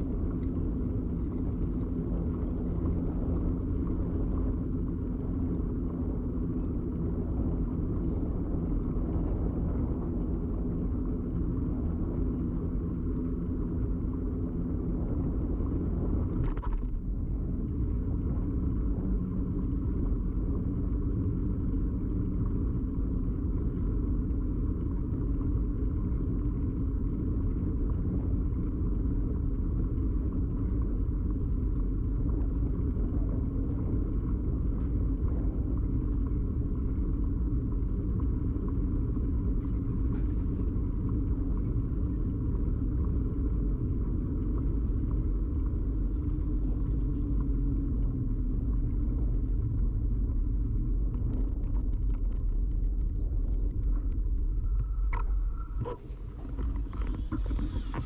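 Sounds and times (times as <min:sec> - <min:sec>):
bicycle rumble and hum: 0:00.0 - 0:58.0.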